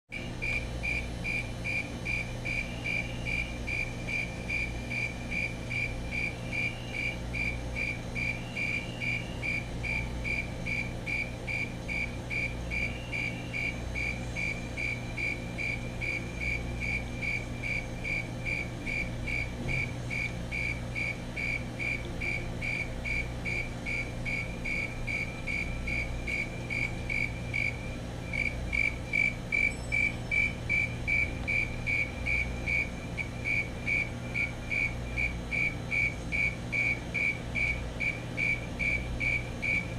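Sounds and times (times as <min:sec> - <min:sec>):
cricket chirping: 0:00.1 - 0:39.9.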